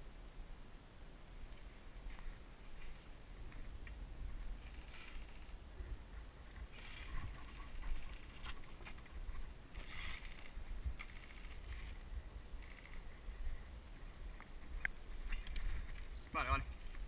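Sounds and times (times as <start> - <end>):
wind rumble: 0.0 - 17.0
microphone handling noise: 1.5 - 17.0.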